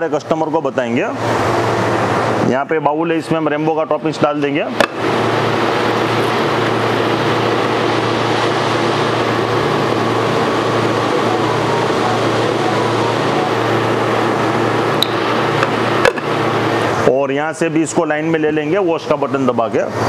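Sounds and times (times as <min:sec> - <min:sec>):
machine hum with low drone: 0:00.0 - 0:18.9.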